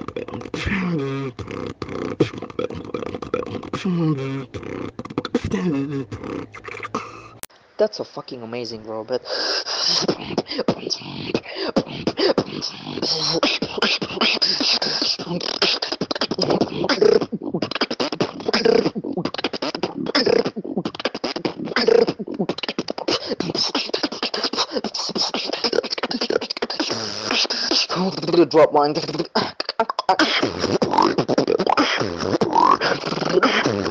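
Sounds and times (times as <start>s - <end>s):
person beatboxing: 0.0s - 7.5s, 9.4s - 33.9s.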